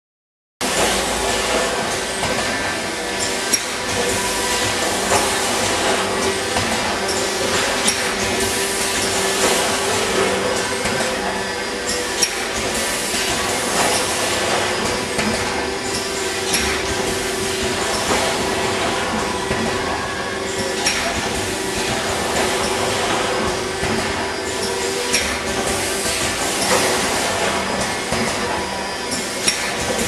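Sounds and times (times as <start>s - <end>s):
machine humming: 0.6s - 30.0s
sharp metallic clicks and clanks: 0.8s - 28.5s.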